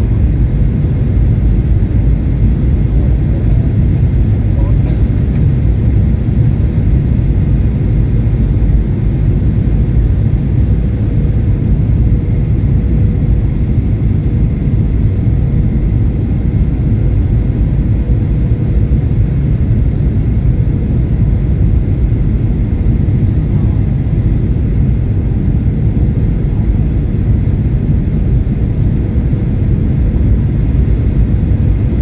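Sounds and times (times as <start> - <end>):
jet airliner engines rumbling: 0.0 - 32.0.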